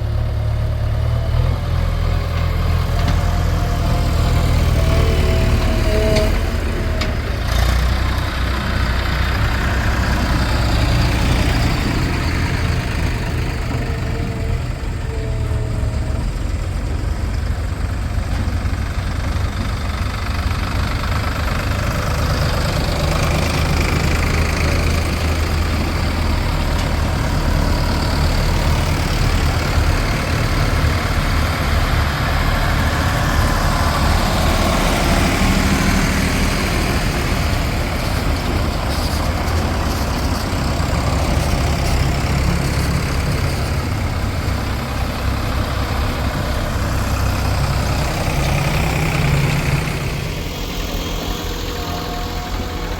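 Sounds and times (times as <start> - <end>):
diesel engines rumbling: 0.0 - 52.9.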